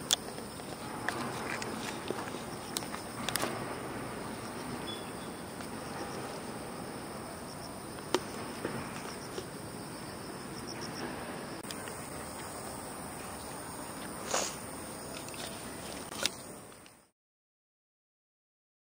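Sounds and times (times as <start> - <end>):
insects chirping: 0.0 - 17.1.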